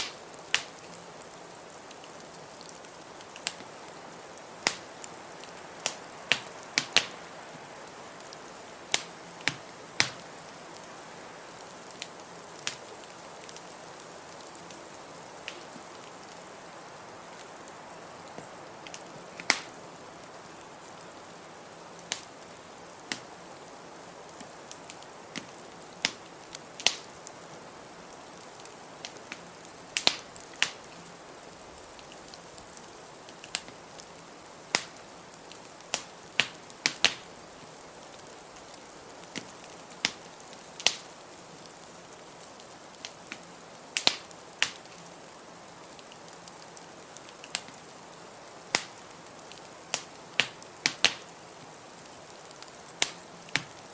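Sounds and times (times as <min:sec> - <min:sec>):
wood fire crackling and popping: 0:00.0 - 0:45.2, 0:45.8 - 0:53.9
blizzard wind hiss: 0:00.0 - 0:47.3.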